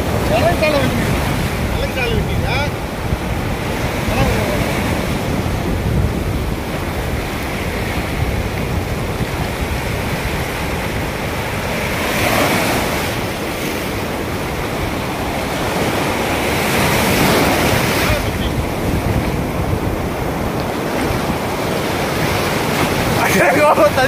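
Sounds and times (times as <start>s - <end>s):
sea surf breaking on sand: 0.0s - 24.0s.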